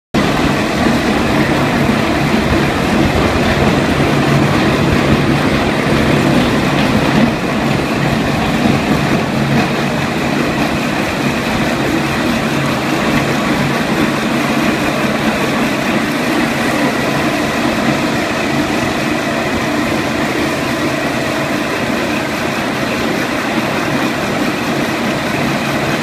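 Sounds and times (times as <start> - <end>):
low motor hum: 0.2 - 25.0.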